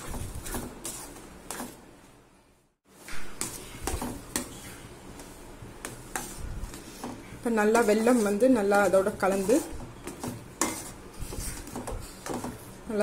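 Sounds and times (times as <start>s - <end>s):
ladle scraping thick mixture in pan: 0.0s - 1.8s, 3.0s - 12.8s.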